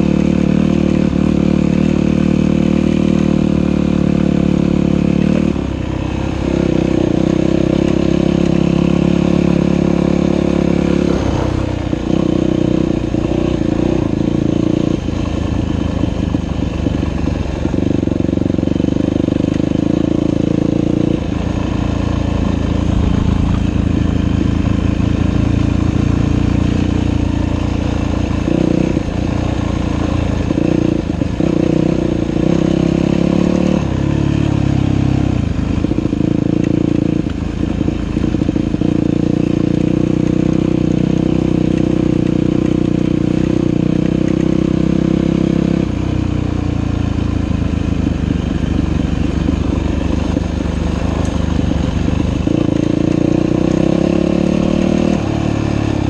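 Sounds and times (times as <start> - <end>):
dirt bike engine revving: 0.0 - 45.9, 46.8 - 56.0.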